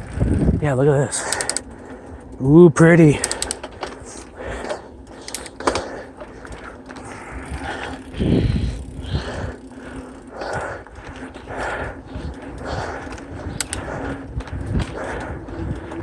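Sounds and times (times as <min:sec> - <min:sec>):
bike chain and frame rattling: 0:00.0 - 0:16.0
bike tyres on dirt: 0:00.0 - 0:16.0.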